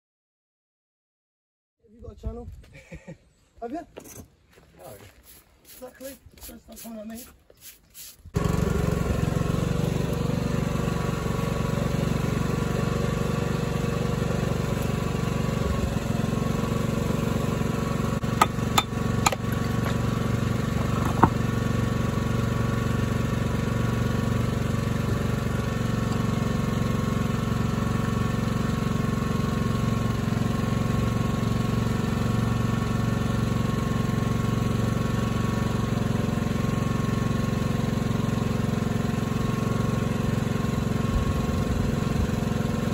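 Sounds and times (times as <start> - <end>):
small engine running: 8.3 - 42.9.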